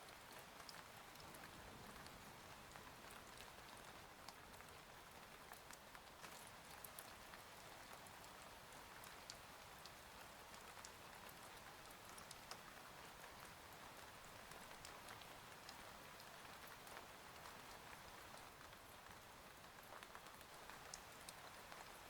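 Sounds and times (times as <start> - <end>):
faint steady rain: 0.0 - 22.0.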